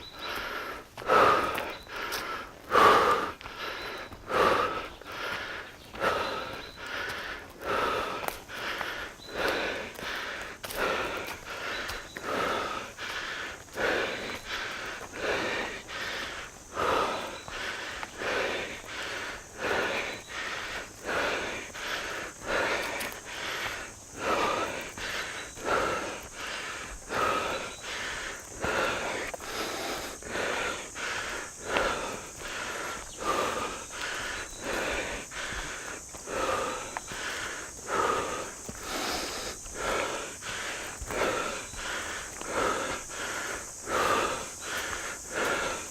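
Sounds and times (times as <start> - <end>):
person panting heavily: 0.0 - 45.9.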